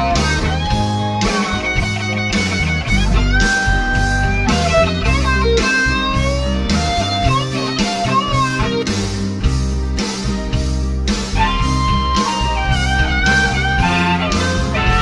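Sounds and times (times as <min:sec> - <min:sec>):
bass and drums: 0:00.0 - 0:15.0
electric guitar lead: 0:00.0 - 0:15.0.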